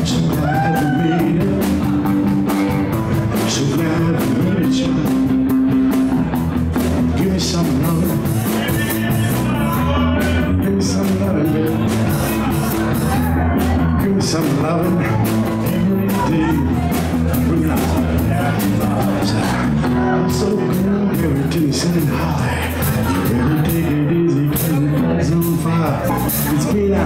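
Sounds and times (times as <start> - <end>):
bass guitar: 0.0 - 27.0
drums: 0.0 - 27.0
electric guitar: 0.0 - 27.0.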